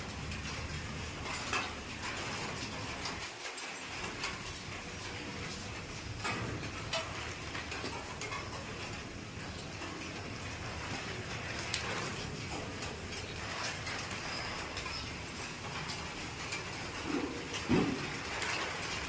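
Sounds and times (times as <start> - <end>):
light clicks and knocks of items: 0.0 - 19.0.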